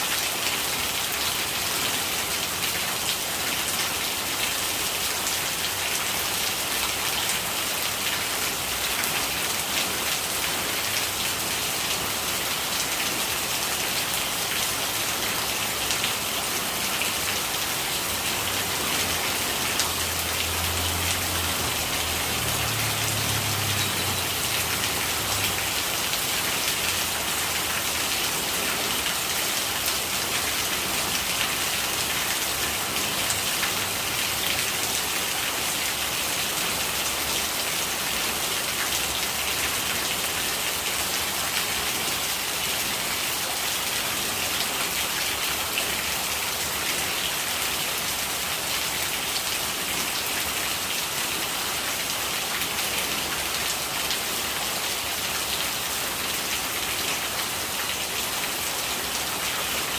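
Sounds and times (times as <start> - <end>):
rain falling: 0.0 - 59.9
rainwater gurgling: 0.0 - 59.9.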